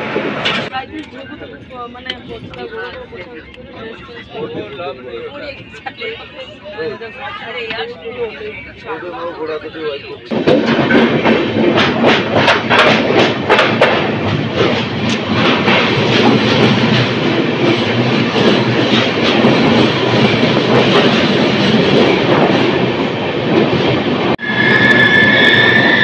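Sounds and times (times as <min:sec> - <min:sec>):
train wheel and rail noise: 0:00.0 - 0:26.0.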